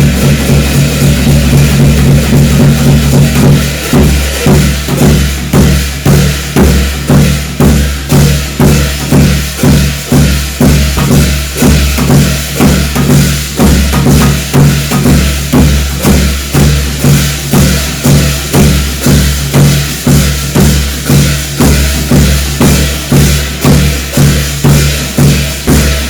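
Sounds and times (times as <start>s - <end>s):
percussion beat: 0.0s - 26.0s.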